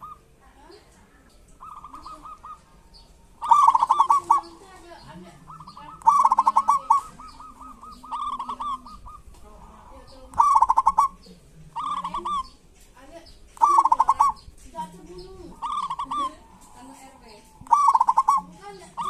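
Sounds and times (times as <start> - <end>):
dove stuttering call: 0.0 - 0.8, 1.4 - 19.0.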